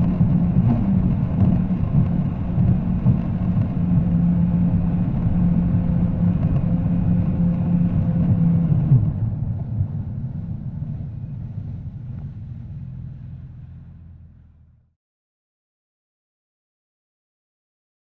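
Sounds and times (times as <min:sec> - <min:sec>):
jet ski engine drone: 0:00.0 - 0:14.8.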